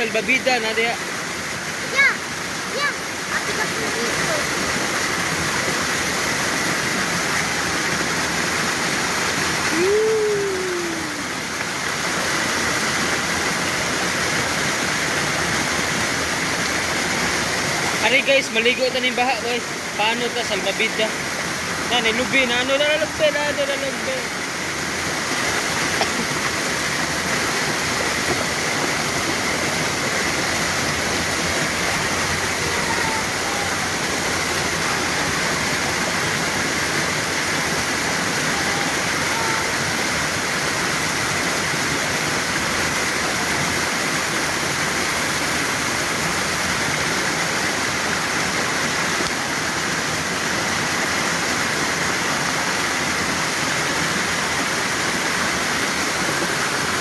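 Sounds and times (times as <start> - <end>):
floodwater rushing through creek: 0.0 - 57.0.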